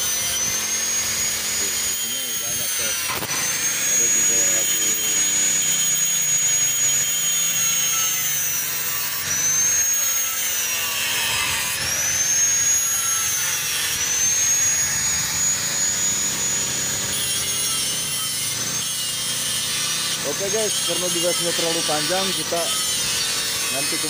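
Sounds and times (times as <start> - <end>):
angle grinder grinding steel: 0.0 - 24.0.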